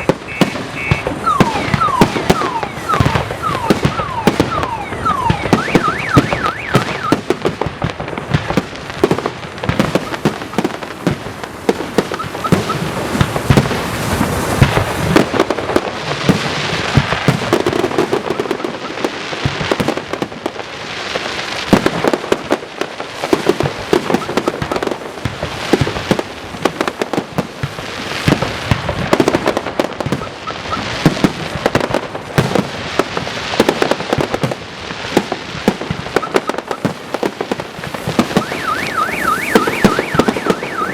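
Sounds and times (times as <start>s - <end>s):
fireworks crackling: 0.0s - 40.9s
fireworks exploding: 0.0s - 40.9s.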